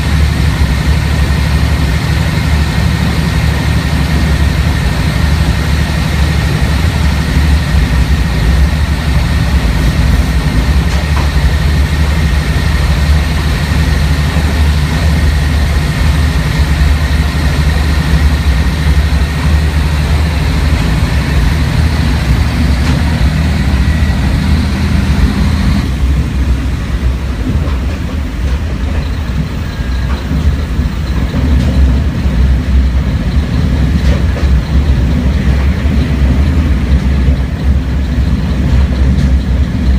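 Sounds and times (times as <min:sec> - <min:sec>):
diesel railcar engine droning: 0:00.0 - 0:39.9.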